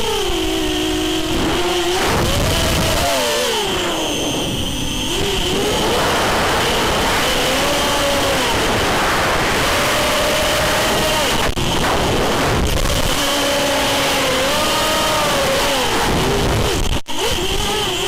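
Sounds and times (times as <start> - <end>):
drone motors buzzing whine: 0.0 - 18.0.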